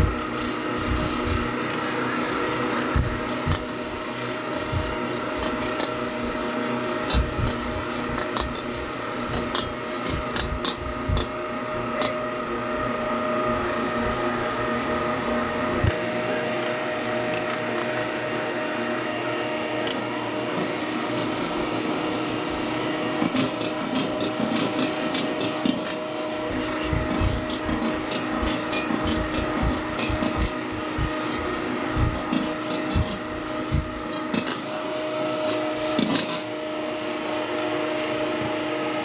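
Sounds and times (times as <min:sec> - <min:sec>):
cooking equipment hum: 0:00.0 - 0:39.0.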